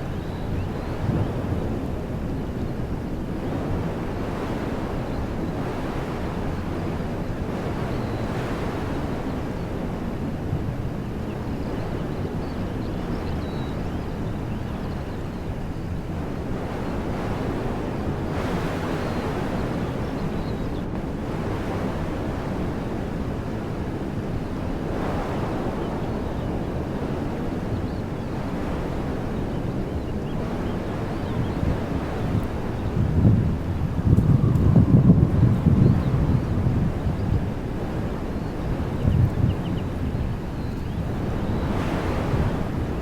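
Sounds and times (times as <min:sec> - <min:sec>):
wind through trees: 0:00.0 - 0:43.0.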